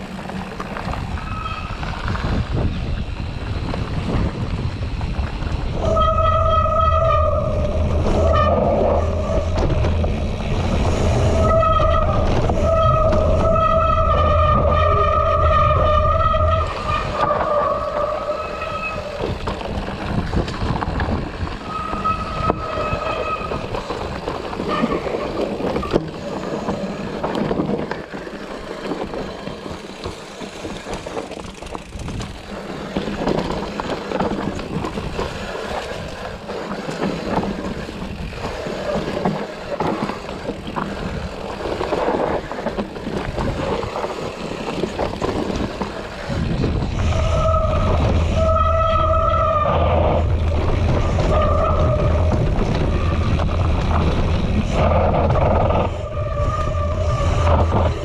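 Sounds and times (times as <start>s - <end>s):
bike frame rattling: 0.0s - 58.0s
bike tyres on rough trail: 0.0s - 58.0s.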